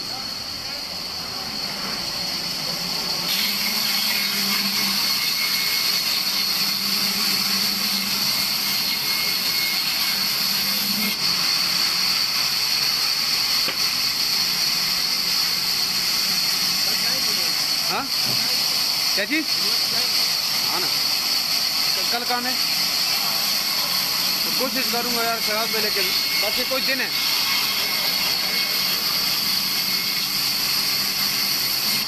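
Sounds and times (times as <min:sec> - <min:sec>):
band saw cutting log: 0:00.0 - 0:32.0.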